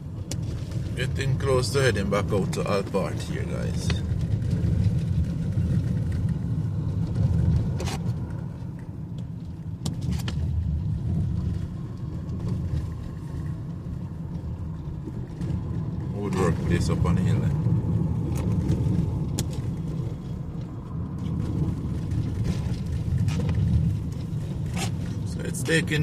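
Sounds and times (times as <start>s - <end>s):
car driving rumble inside cabin: 0.0s - 26.0s.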